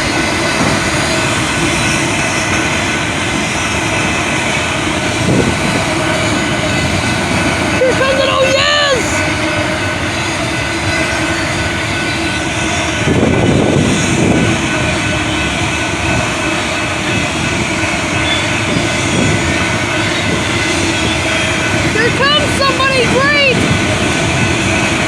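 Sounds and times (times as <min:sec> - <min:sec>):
train cars rumbling and rattling: 0:00.0 - 0:25.0.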